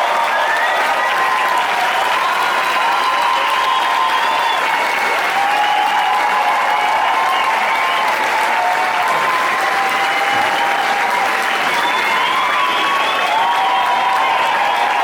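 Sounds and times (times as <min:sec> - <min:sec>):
concert audience applauding: 0:00.0 - 0:15.0.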